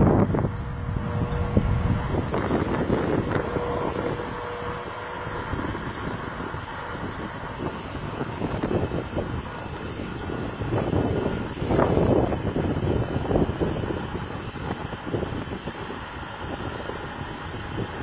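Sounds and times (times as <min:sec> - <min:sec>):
truck diesel engine under load: 0:00.0 - 0:18.0
wind buffeting microphone: 0:00.0 - 0:18.0.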